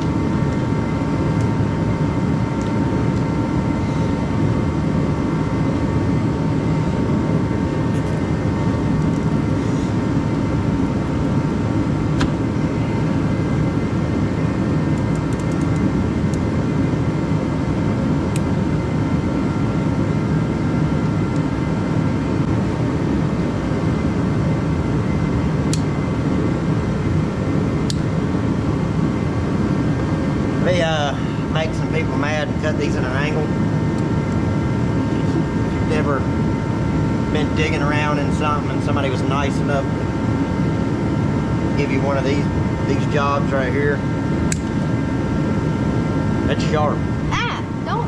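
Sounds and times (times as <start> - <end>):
machine drone: 0.0 - 48.0.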